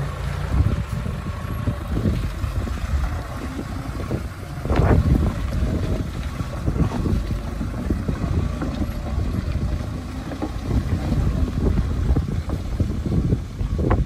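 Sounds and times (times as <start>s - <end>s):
diesel truck engine under load: 0.0s - 14.0s
wind rumbling on microphone: 0.0s - 14.0s.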